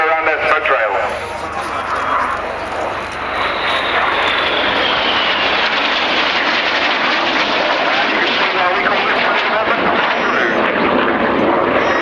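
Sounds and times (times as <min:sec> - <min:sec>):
high jet whine: 0:00.0 - 0:12.0
jet engine noise: 0:00.0 - 0:12.0.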